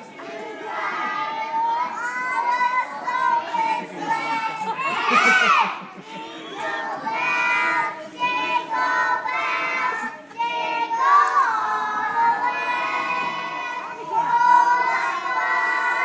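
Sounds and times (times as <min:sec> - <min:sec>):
children singing together: 0:00.0 - 0:16.0.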